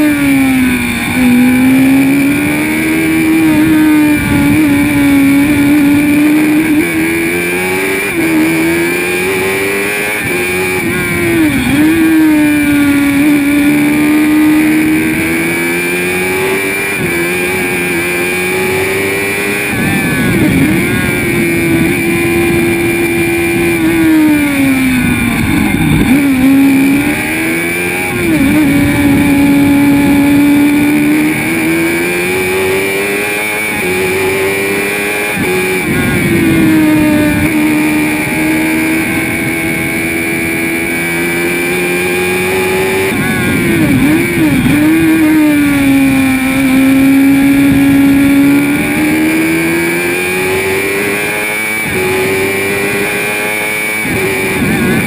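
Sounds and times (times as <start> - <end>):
racing car engine at speed: 0.0 - 55.0.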